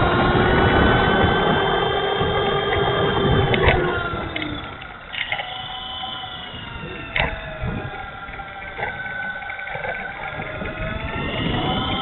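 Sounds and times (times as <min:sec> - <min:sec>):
electric motor whining: 0:00.0 - 0:12.0
rough rumble: 0:00.0 - 0:12.0.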